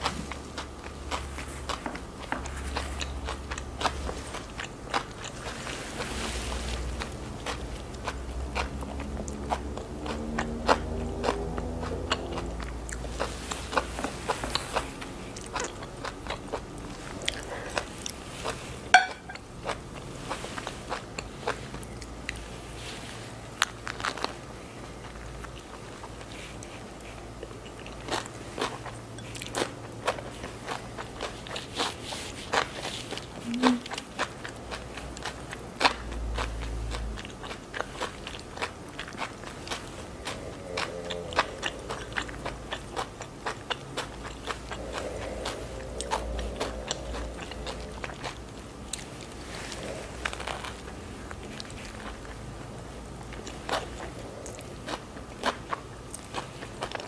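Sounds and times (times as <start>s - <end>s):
chewing and biting crunches: 0.0s - 57.0s.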